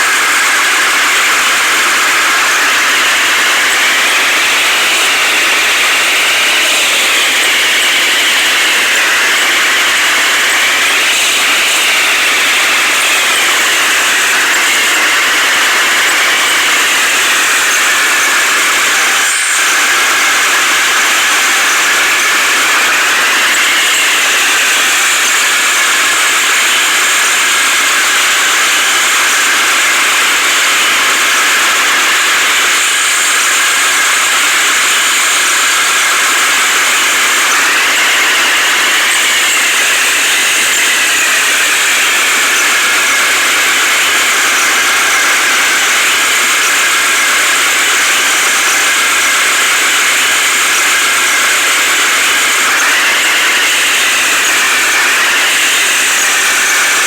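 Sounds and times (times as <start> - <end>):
heavy machinery engine running: 0.0 - 57.0
rising and falling whine: 0.0 - 57.0.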